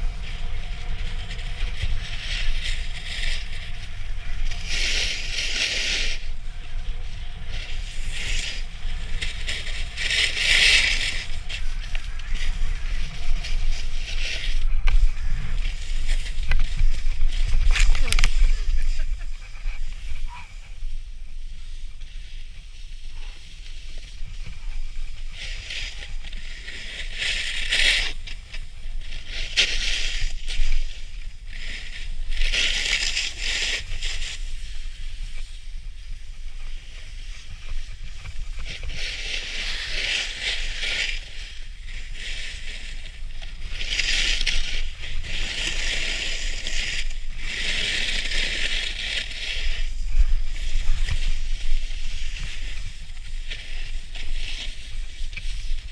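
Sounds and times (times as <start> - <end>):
snowboard scraping on snow: 0.0 - 55.9
steady low rumble: 0.0 - 55.9.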